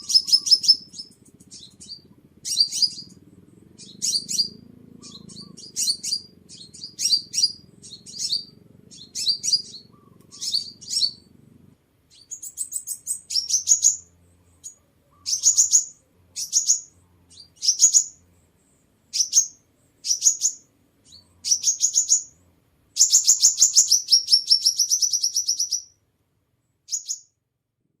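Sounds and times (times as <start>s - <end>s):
bird chirping: 0.0s - 11.4s, 12.0s - 26.0s, 26.6s - 27.4s
rapid bird trill: 0.0s - 11.4s, 12.0s - 26.0s, 26.9s - 27.4s.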